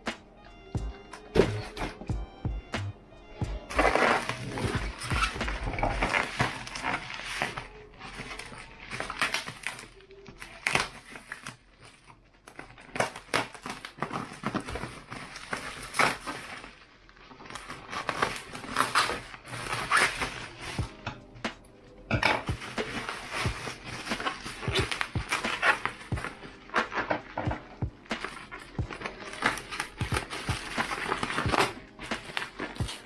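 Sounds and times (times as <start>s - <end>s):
bubble wrap crinkling and snapping: 3.6s - 33.0s.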